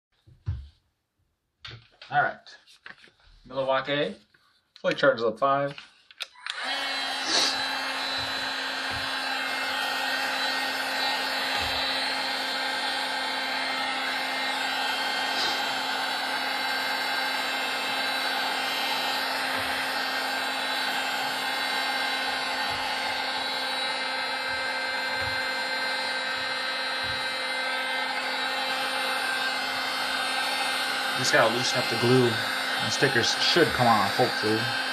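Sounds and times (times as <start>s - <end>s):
heat gun fan whirring: 6.2s - 34.9s.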